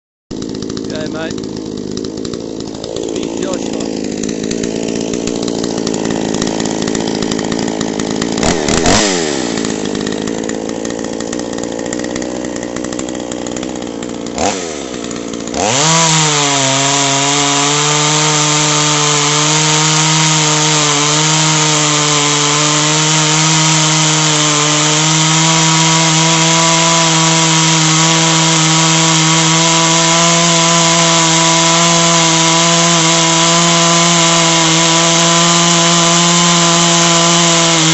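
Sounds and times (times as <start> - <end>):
chainsaw engine idling and revving: 0.3 - 37.9.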